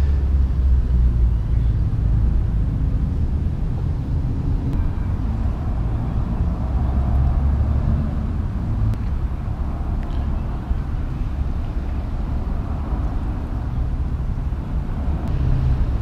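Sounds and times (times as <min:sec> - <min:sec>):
traffic rumble: 0:00.0 - 0:16.0
vehicle passing by: 0:00.0 - 0:16.0.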